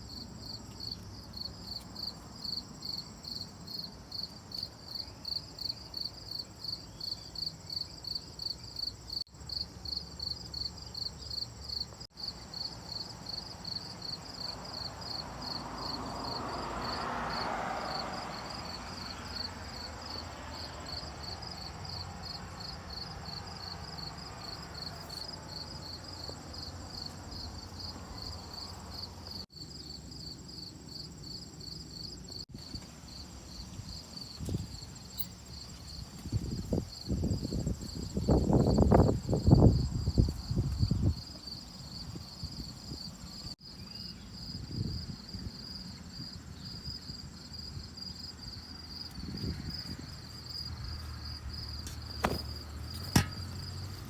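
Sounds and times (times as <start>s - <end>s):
cricket chirping: 0.0s - 54.0s
high insect trill: 0.0s - 54.0s.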